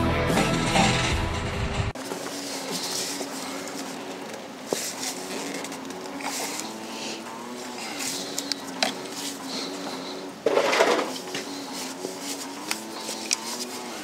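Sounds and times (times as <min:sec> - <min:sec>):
scraping rustling noise: 0:01.8 - 0:14.0.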